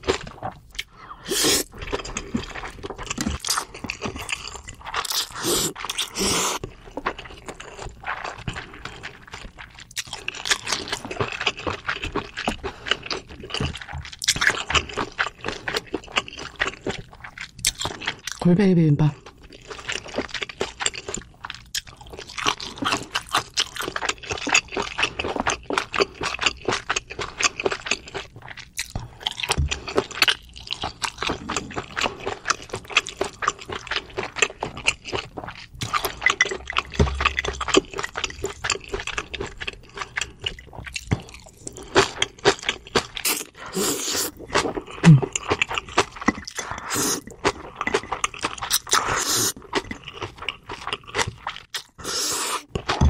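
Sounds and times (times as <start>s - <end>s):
wet chewing and smacking: 1.6s - 18.4s, 19.2s - 53.0s.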